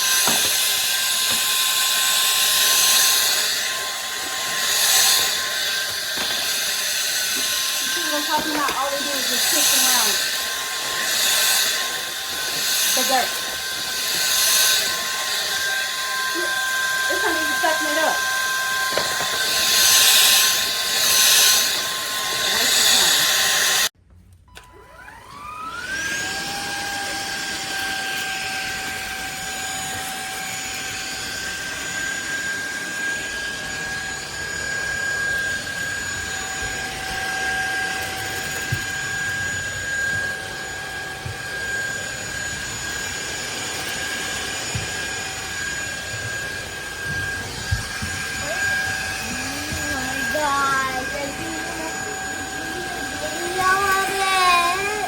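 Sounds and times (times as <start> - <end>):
vacuum motor high whine: 0.0 - 23.9, 24.5 - 55.0
vacuum rushing hiss: 0.0 - 23.9, 26.6 - 55.0.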